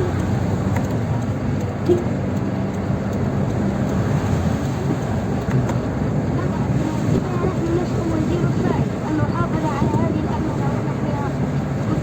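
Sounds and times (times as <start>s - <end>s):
car engine drone and road noise: 0.0s - 12.0s.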